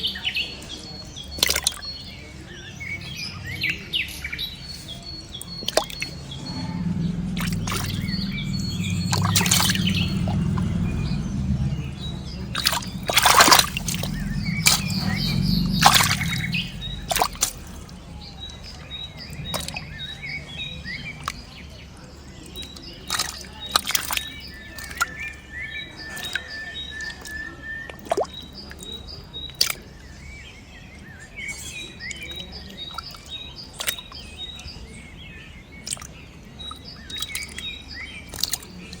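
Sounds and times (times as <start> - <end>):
small birds chirping: 0.0 - 39.0
water splashing: 1.3 - 2.0, 4.6 - 30.0, 32.1 - 34.6, 35.7 - 39.0.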